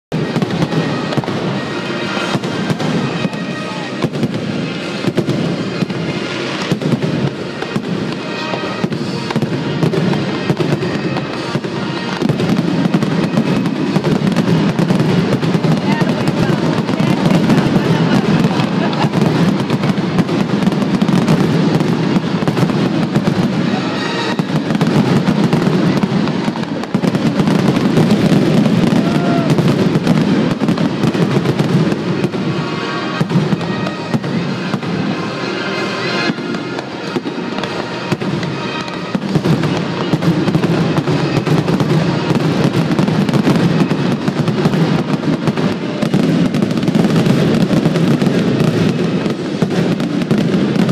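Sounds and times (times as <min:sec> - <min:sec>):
fireworks bangs and crackling: 0:00.1 - 0:50.9.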